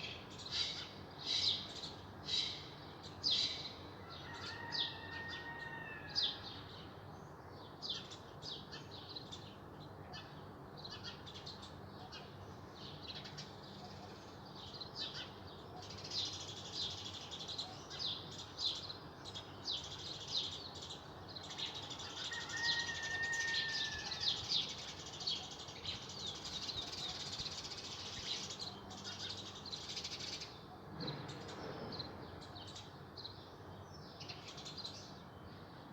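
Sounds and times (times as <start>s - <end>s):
songbirds chirping and twittering: 0.0s - 35.9s.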